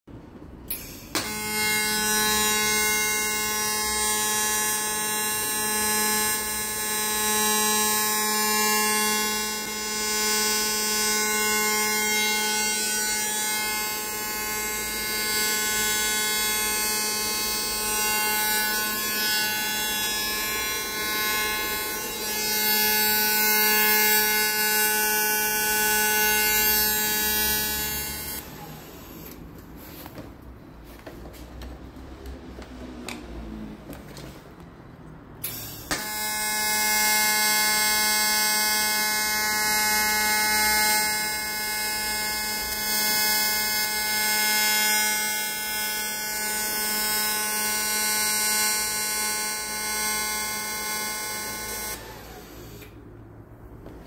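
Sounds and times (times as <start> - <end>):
arc welder buzzing and hissing: 0.7 - 29.4, 35.4 - 53.0.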